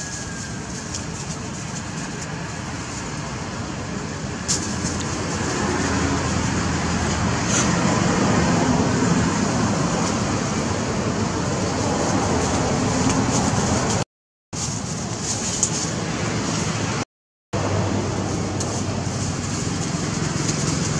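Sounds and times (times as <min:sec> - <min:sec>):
steady rushing noise: 0:00.0 - 0:14.0, 0:17.6 - 0:20.9.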